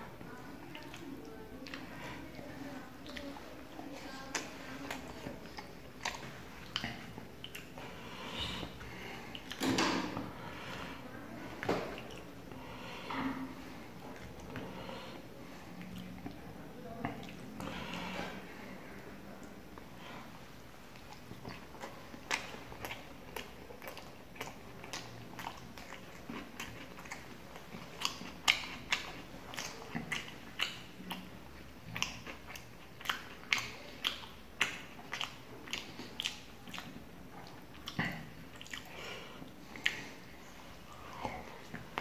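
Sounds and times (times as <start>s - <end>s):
person chewing food: 0.0s - 42.0s.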